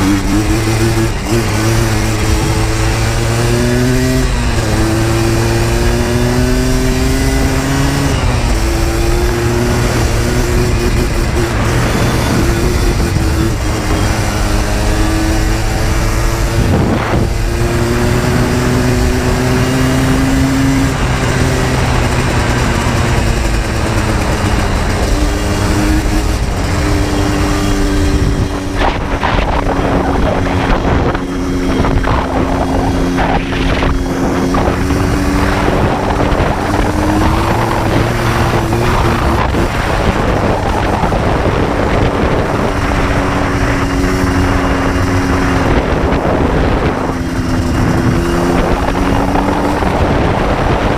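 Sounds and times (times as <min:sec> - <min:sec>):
two-stroke engine running: 0:00.0 - 0:50.9
wind buffeting microphone: 0:00.0 - 0:50.9.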